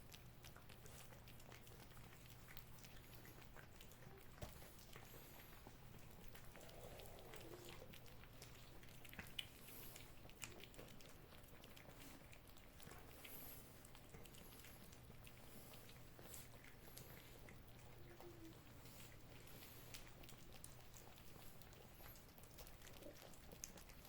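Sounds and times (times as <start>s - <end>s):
cats licking and chewing: 0.0s - 24.0s.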